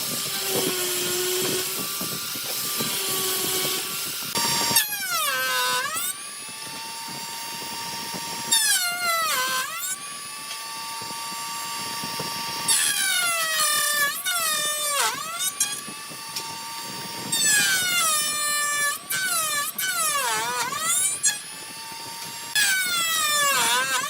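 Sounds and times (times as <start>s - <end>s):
power tool motor cutting wood: 0.0s - 24.0s.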